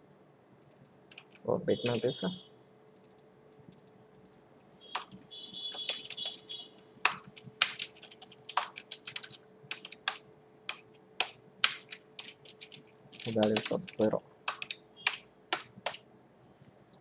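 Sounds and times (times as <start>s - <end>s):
faint steady hum: 0.0s - 17.0s
typing on computer keyboard: 0.6s - 2.0s, 3.0s - 4.4s, 5.0s - 16.0s.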